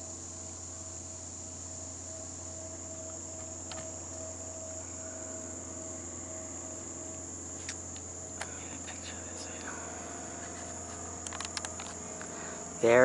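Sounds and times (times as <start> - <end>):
crickets trilling: 0.0 - 13.0
low hum: 0.0 - 13.0.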